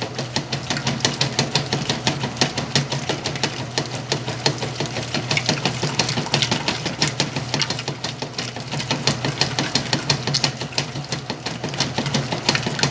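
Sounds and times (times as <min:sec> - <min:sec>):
clicking and knocking in washer: 0:00.0 - 0:12.9
washing machine motor hum: 0:00.0 - 0:12.9.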